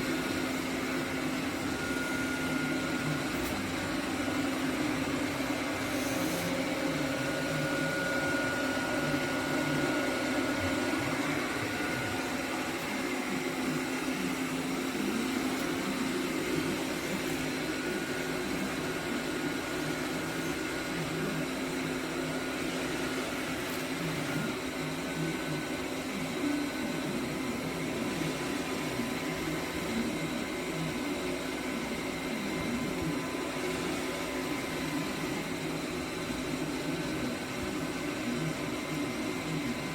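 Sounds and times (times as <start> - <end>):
robot vacuum cleaner running: 0.0 - 39.9.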